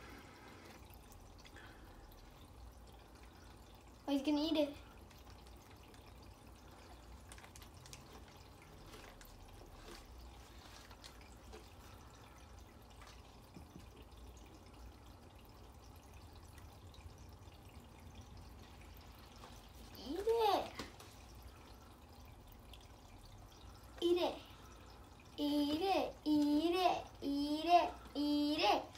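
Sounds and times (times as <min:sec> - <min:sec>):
aquarium filter trickling: 0:00.0 - 0:28.9
small water drips: 0:00.0 - 0:28.9.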